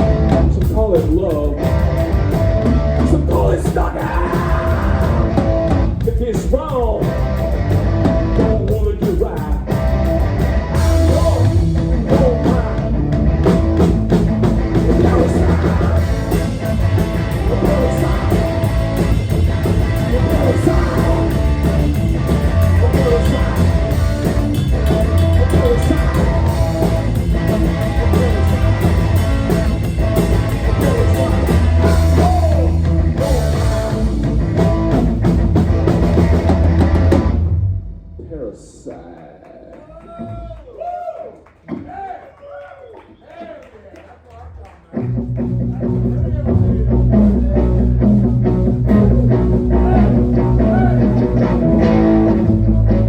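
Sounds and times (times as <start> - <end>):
drum kit: 0.0 - 38.1, 44.9 - 53.0
electric guitar: 0.0 - 38.2, 44.9 - 53.0
bass guitar: 0.0 - 38.9, 44.5 - 53.0.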